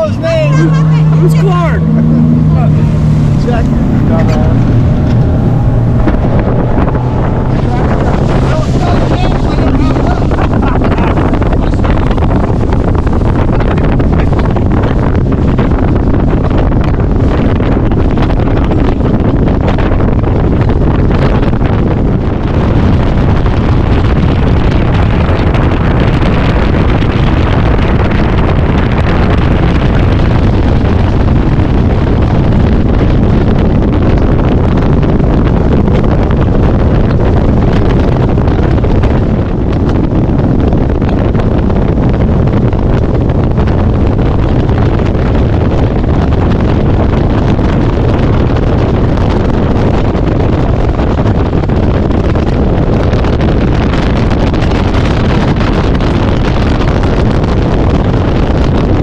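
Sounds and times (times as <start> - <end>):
hull on water: 0.0 - 59.0
outboard motor drone: 0.0 - 59.0
wind buffeting microphone: 0.0 - 59.0.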